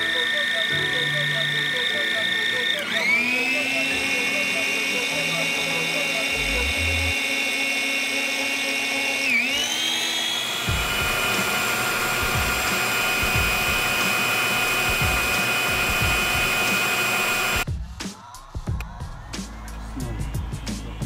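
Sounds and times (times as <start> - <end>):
stand mixer motor whining: 0.0 - 17.6.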